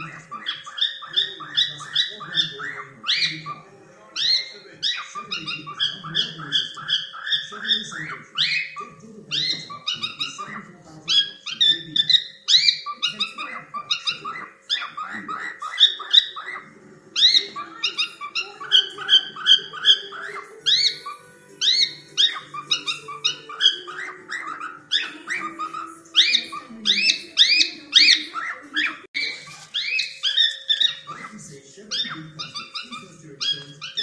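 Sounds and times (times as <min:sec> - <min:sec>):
cockatiel chirping: 0:00.0 - 0:34.0.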